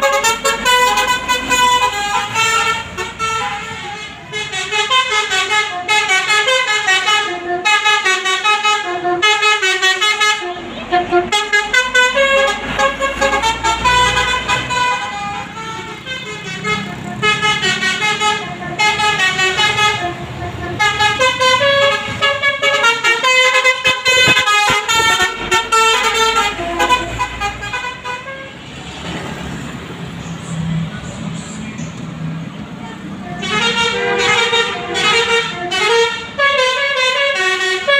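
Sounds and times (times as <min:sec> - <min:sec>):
multi-tone horn playing melody: 0:00.0 - 0:28.6, 0:32.8 - 0:37.9.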